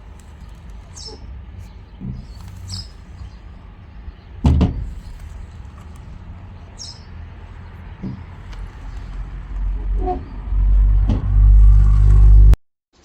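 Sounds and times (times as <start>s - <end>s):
low steady rumble: 0.0s - 12.6s.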